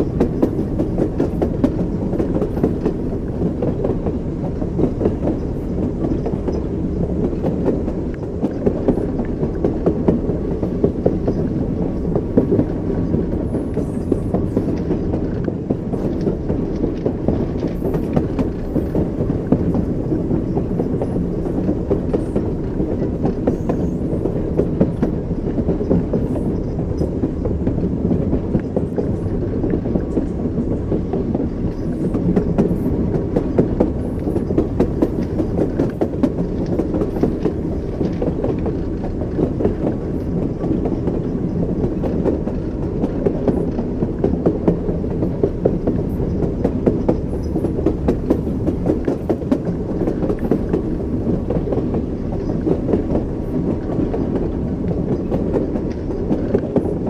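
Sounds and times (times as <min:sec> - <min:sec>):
low rumble of moving train: 0:00.0 - 0:57.0
train wheels clacking: 0:00.0 - 0:57.0.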